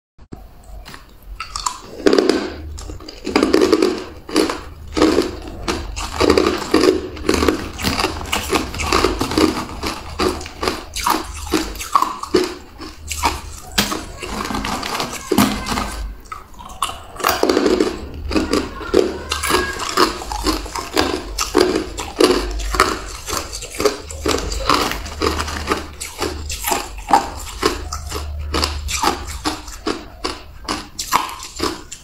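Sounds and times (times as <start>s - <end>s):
person crunching ice: 1.5s - 16.2s, 16.8s - 32.0s.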